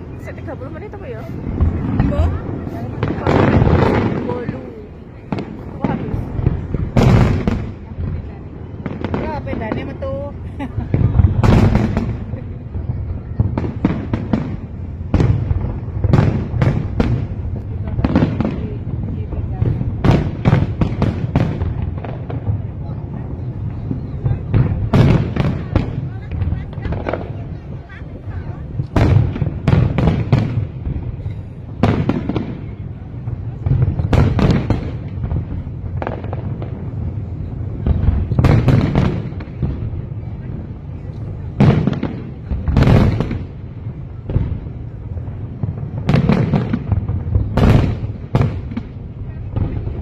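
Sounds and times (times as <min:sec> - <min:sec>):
continuous low rumble: 0:00.0 - 0:50.0
fireworks bangs and crackles: 0:00.0 - 0:50.0.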